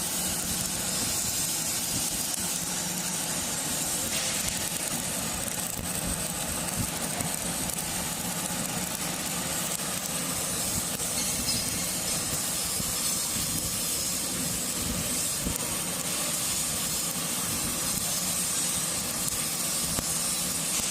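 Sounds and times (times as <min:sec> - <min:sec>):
welding arc sizzling and crackling: 0:00.0 - 0:20.9.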